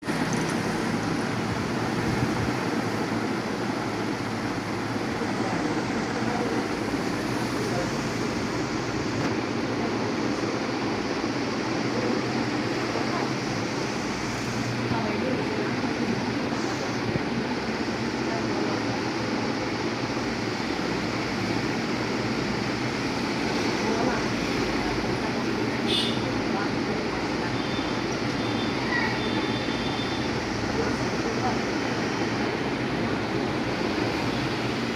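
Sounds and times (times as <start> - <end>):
ceiling fan rushing air: 0.0 - 34.9.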